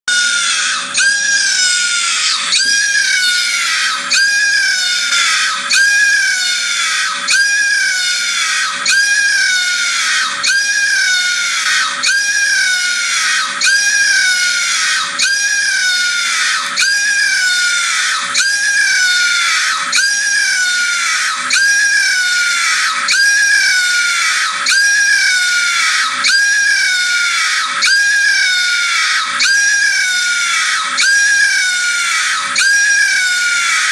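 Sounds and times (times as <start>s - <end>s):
phone alarm siren shriek: 0.1s - 33.9s.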